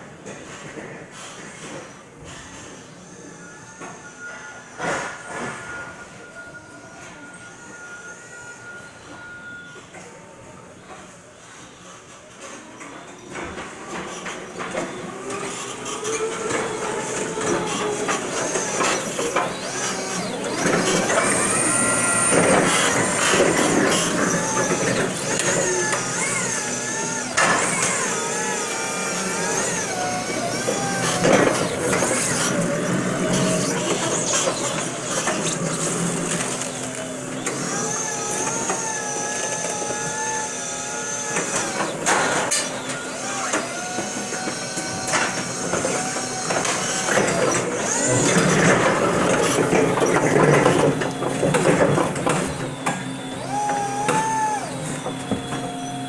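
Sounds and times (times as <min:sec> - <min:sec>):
electric motor and hydraulic whine: 0:01.2 - 0:09.5, 0:13.4 - 0:56.0.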